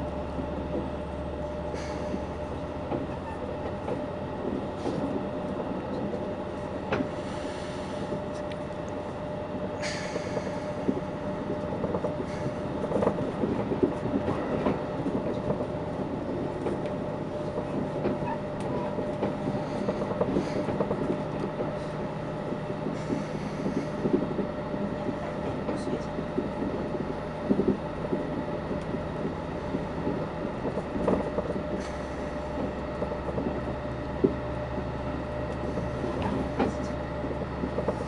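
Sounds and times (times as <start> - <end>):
constant low hum: 0.0 - 38.0
train wheels on rails: 0.0 - 38.0.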